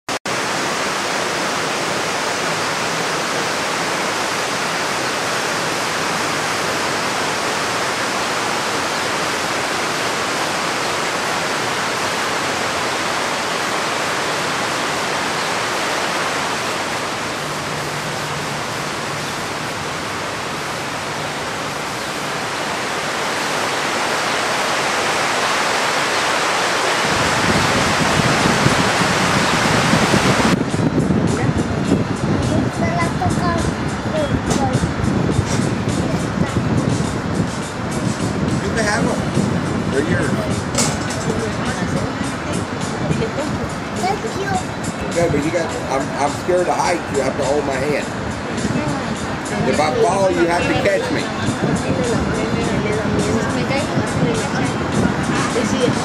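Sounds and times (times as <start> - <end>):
loud rushing hiss: 0.3 - 56.0.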